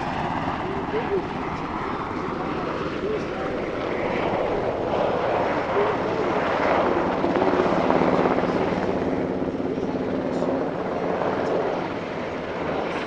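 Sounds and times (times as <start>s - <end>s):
helicopter engines whining: 0.0s - 13.0s
helicopter rotor beating: 0.0s - 13.0s.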